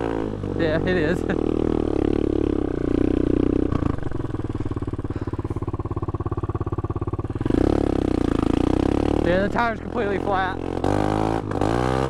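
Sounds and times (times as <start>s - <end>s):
dirt bike engine revving and idling: 0.0s - 12.0s.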